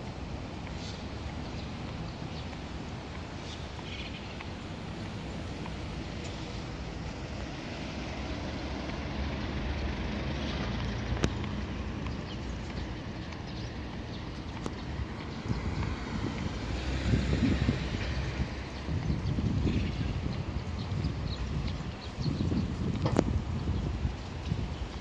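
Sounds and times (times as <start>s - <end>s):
low rumble of road traffic: 0.0s - 25.0s.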